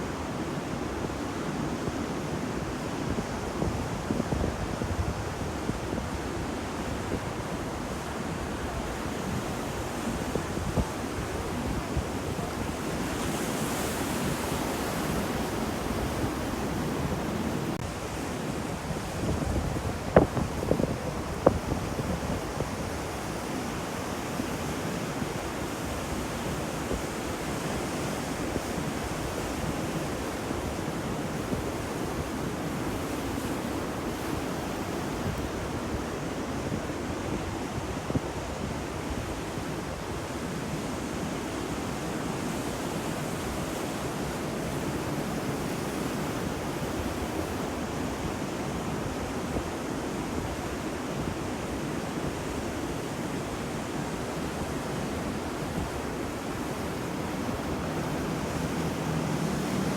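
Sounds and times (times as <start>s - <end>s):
ocean waves on shore: 0.0s - 59.9s
wind rumble on microphone: 0.0s - 59.9s.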